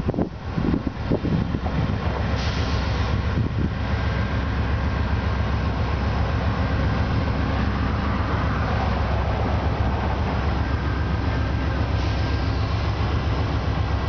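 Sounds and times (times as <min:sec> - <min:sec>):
diesel locomotive engine rumble: 0:00.0 - 0:14.0.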